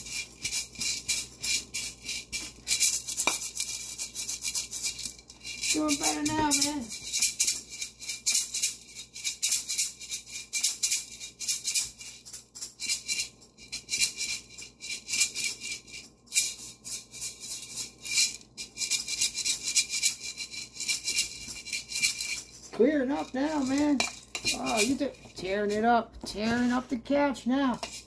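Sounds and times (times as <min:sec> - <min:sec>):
maracas rattling: 0:00.0 - 0:26.9, 0:27.7 - 0:28.0.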